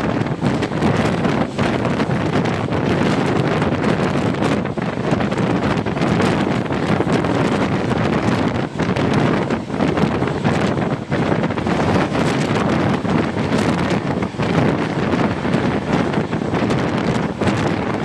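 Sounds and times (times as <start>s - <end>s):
train running noise: 0.0s - 18.0s
wind buffeting microphone: 0.0s - 18.0s.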